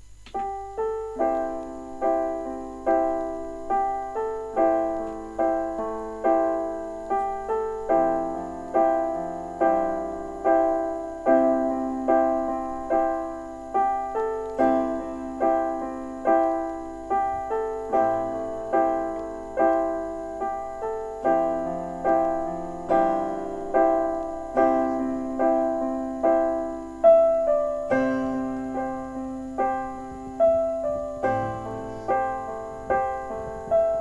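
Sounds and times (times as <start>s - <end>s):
slow gentle solo piano: 0.0s - 34.0s.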